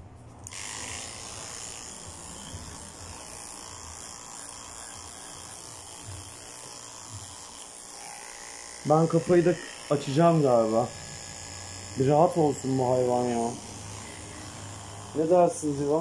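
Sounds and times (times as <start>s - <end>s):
electric clipper buzzing: 0.4s - 16.0s.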